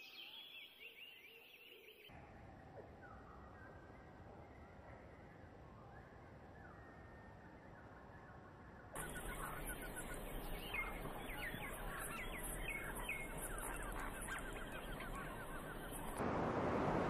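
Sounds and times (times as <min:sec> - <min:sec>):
songbirds chirping and trilling: 0:00.0 - 0:02.2, 0:02.8 - 0:16.2.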